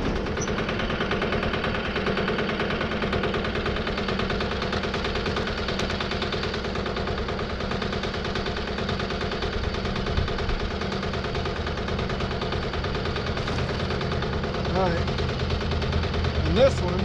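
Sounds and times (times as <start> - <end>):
band sawmill running: 0.0 - 17.0.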